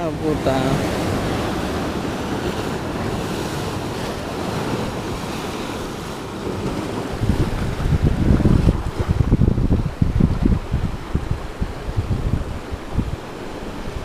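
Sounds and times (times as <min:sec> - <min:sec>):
ocean surf breaking on rocks: 0:00.0 - 0:14.0
wind on microphone: 0:00.0 - 0:14.0.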